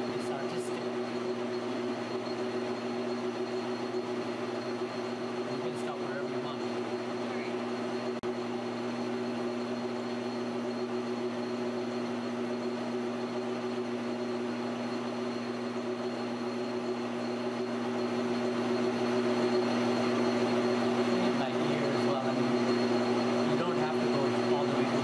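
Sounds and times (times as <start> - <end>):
metal lathe humming: 0.0 - 25.0.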